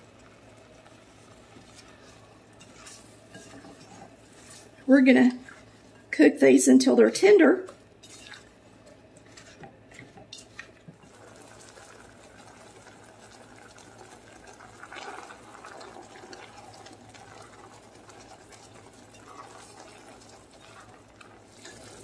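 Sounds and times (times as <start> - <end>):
pot bubbling with small pops: 0.0 - 6.2, 7.6 - 22.0.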